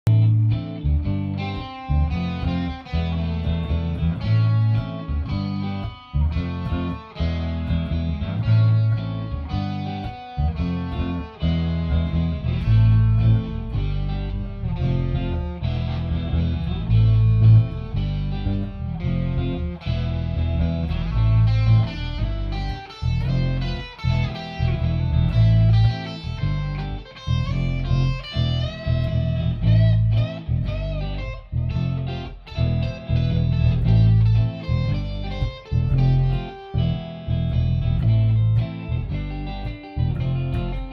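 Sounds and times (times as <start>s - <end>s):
electric guitar shuffle: 0.0s - 40.9s.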